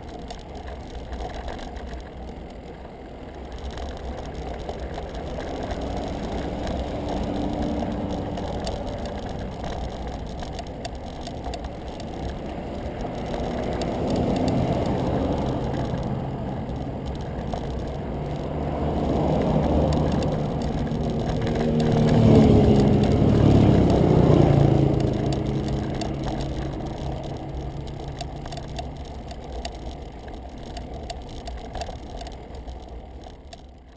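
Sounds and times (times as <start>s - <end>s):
wind and road noise rumble: 0.0s - 33.9s
car passing: 2.0s - 31.6s.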